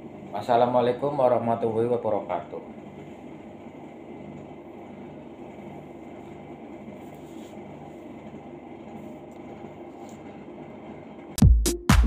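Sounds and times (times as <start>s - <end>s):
low machinery hum: 0.0s - 11.4s.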